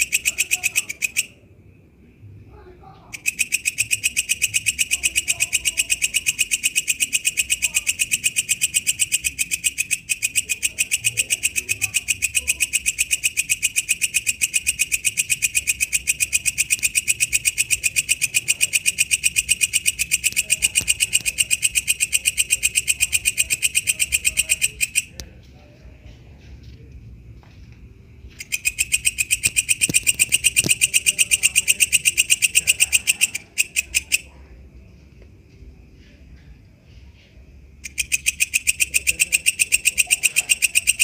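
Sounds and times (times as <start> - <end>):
bush cricket chirping: 3.0 - 41.0.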